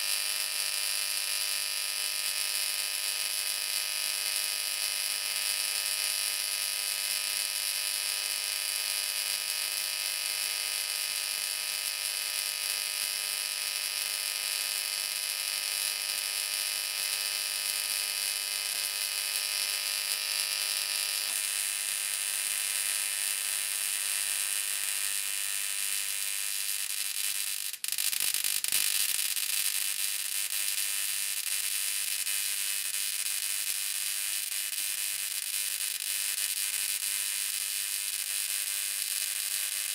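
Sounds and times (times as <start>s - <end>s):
electric arcs buzzing and hissing: 0.0s - 39.9s.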